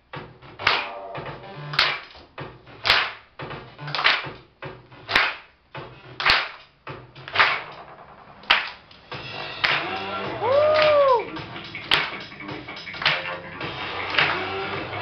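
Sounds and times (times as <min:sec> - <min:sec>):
snare or clap crack: 0:00.6 - 0:15.0.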